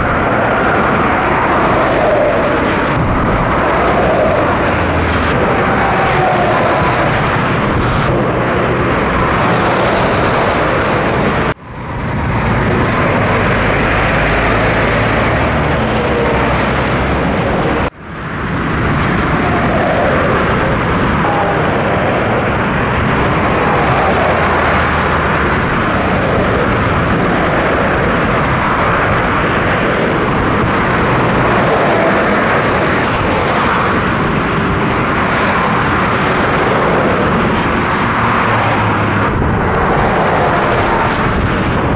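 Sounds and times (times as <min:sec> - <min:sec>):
motorway traffic rushing: 0:00.0 - 0:41.9.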